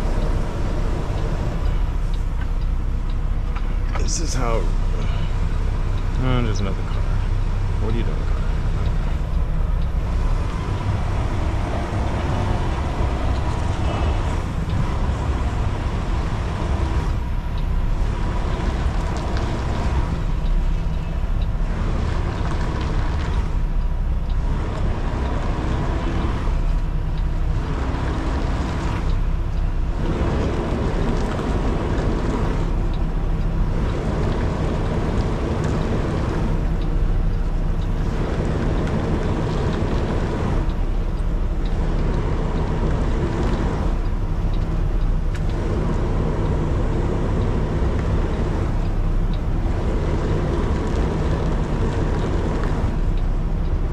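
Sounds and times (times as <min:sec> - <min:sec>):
truck diesel engine rumbling: 0:00.0 - 0:53.9.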